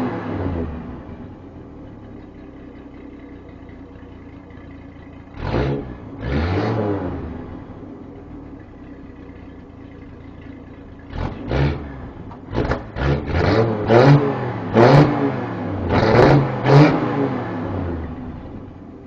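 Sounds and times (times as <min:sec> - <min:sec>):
truck engine idling and revving: 0:00.0 - 0:19.0.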